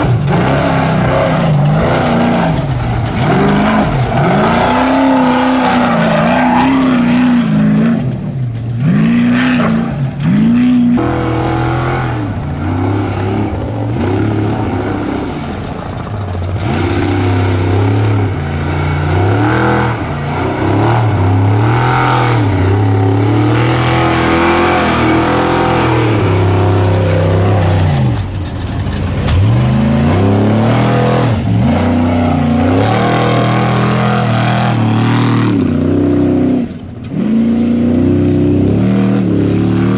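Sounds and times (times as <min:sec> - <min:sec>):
truck engines revving hard: 0:00.0 - 0:39.9.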